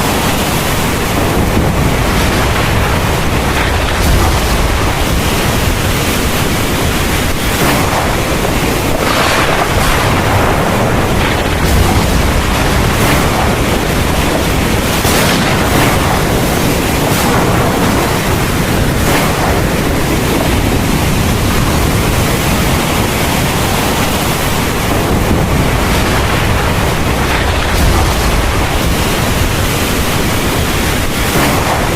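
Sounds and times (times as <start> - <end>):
heavy rain falling: 0.0 - 31.9
low rumble: 0.0 - 31.9.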